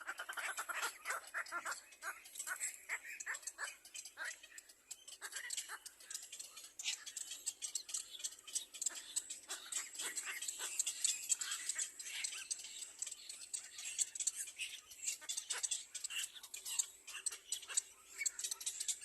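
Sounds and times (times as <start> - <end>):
baby birds chirping: 0.0 - 19.0.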